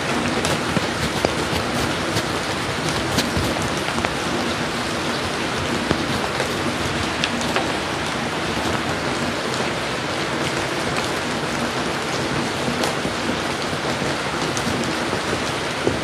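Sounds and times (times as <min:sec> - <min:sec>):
raindrops ticking: 0:00.0 - 0:16.0
steady rain: 0:00.0 - 0:16.0.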